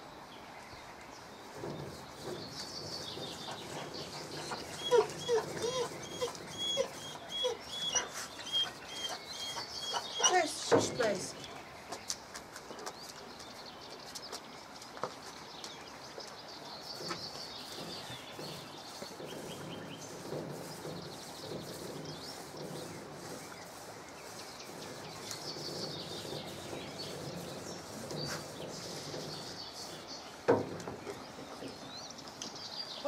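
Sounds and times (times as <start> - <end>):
small birds chirping: 0.6 - 33.0.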